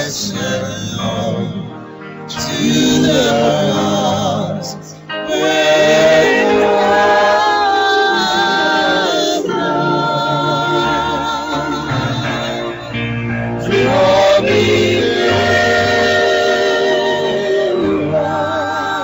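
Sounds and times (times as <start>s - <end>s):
voices singing gospel song: 0.0s - 19.0s.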